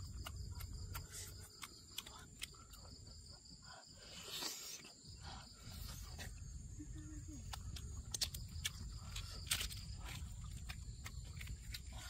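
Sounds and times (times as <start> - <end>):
wet chewing and lip smacking: 0.0 - 12.0.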